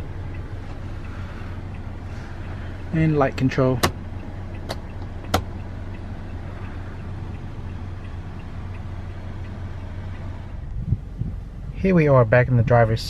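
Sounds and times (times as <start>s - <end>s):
low hum in car cabin: 0.0s - 13.0s.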